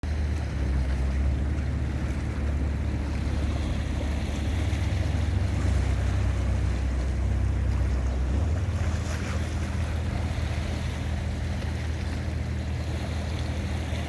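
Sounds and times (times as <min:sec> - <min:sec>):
sea waves washing: 0:00.0 - 0:14.0
wind rumble on microphone: 0:00.0 - 0:14.0.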